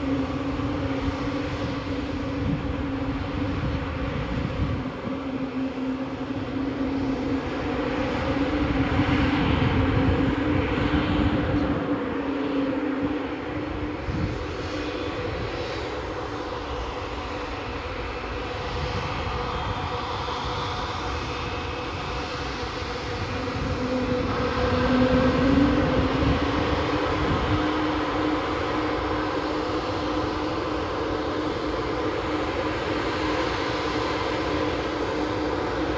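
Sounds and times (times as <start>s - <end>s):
jet engine hum: 0.0s - 35.9s.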